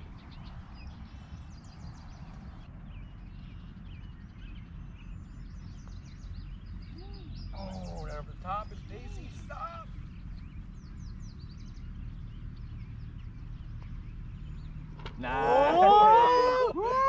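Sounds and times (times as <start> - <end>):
wind rumbling on microphone: 0.0 - 15.3
birds chirping: 0.0 - 17.0
low arching bird calls: 0.0 - 17.0.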